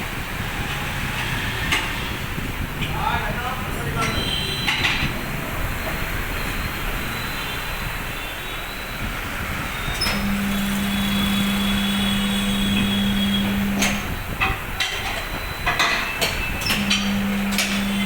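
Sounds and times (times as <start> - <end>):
vehicle and road noise: 0.0 - 18.0.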